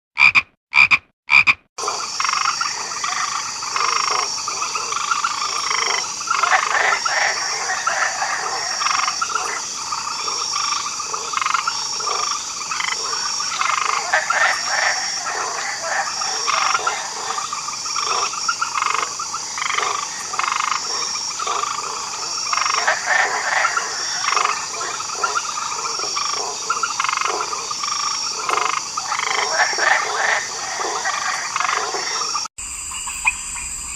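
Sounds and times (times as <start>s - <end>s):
frogs croaking: 0.2s - 33.9s.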